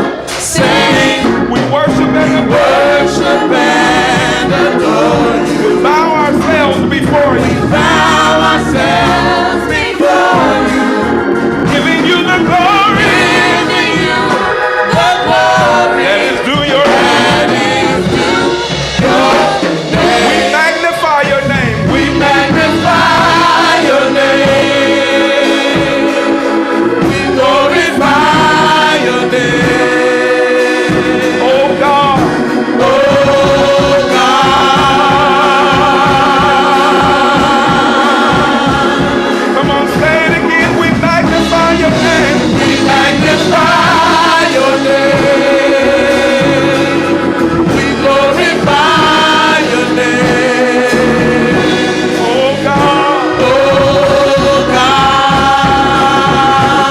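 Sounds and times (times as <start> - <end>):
gospel choir singing: 0.0 - 56.9
instrumental accompaniment: 0.0 - 56.9.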